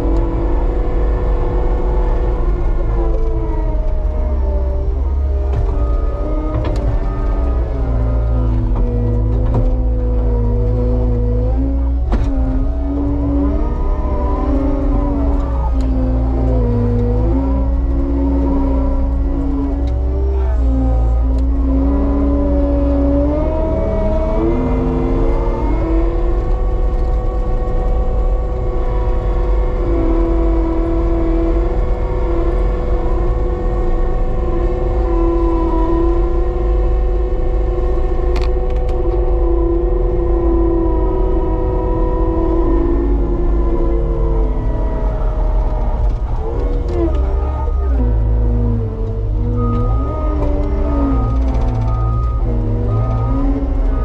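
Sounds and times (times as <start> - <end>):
diesel engine and hydraulics: 0.0 - 54.0.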